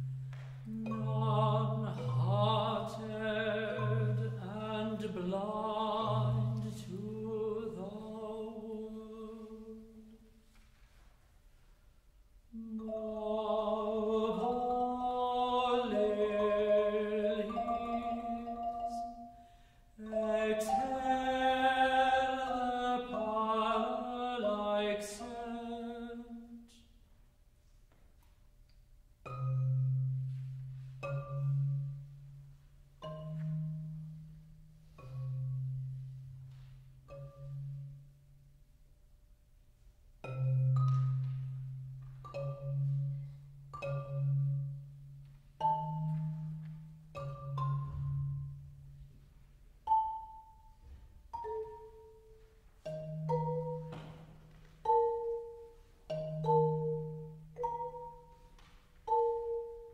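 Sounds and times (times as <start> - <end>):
marimba played with mallets: 0.0 - 8.7, 12.5 - 25.7, 29.2 - 38.6, 40.2 - 59.9.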